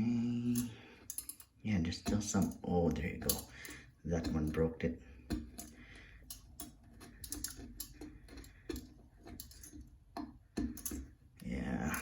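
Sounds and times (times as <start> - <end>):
wire scraping and clicking on porcelain: 0.5 - 12.0.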